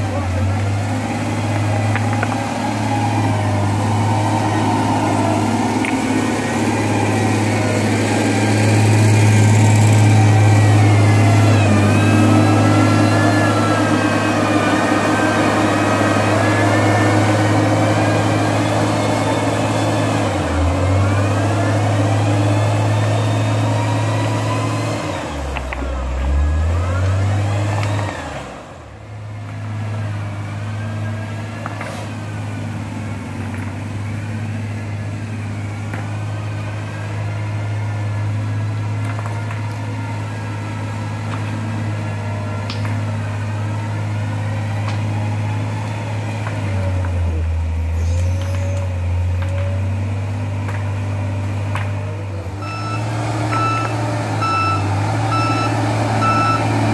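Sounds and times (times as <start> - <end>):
construction machinery engine running: 0.0 - 56.9.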